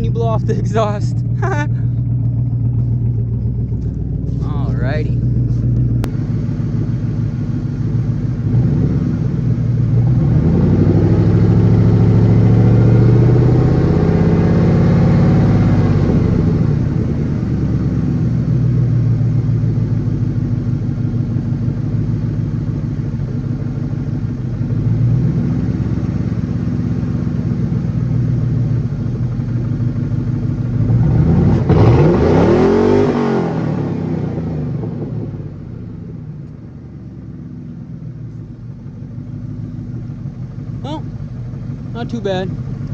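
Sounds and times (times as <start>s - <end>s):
loud car engine revving: 0.0s - 36.5s.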